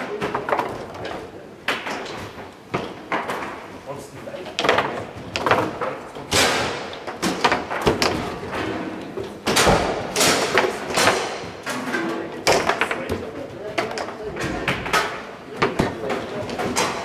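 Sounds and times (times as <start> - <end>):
foosball clacks and knocks: 0.0 - 17.0.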